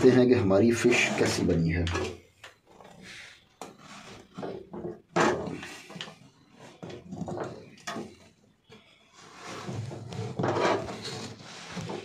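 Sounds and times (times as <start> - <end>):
pot lid scraping and creaking: 0.0 - 12.0.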